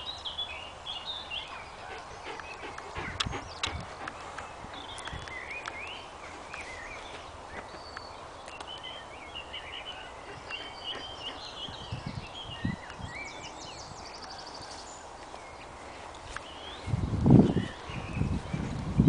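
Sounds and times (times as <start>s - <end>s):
songbirds singing: 0.0s - 19.0s
steady outdoor hiss: 0.0s - 19.0s.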